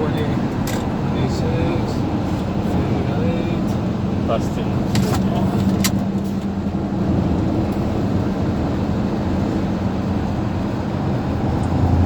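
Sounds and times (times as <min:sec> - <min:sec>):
road noise rushing: 0:00.0 - 0:12.0
truck engine hum: 0:00.0 - 0:12.0.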